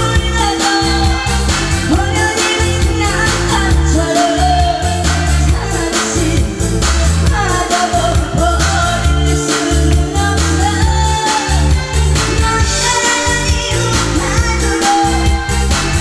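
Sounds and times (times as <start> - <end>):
person singing: 0.0 - 16.0
pop drum and bass beat: 0.0 - 16.0.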